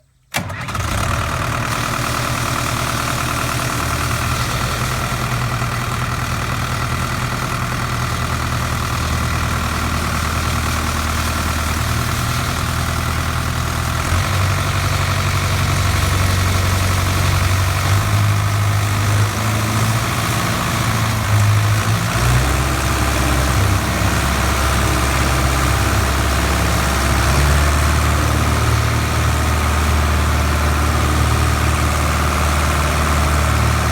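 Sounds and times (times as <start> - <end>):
diesel engine running: 0.4 - 33.9.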